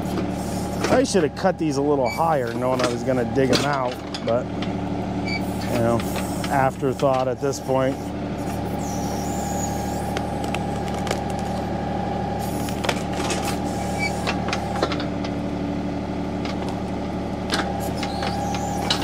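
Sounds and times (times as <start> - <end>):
hydraulic whine: 0.0 - 15.4, 17.4 - 19.0
tractor diesel engine running: 0.0 - 19.0.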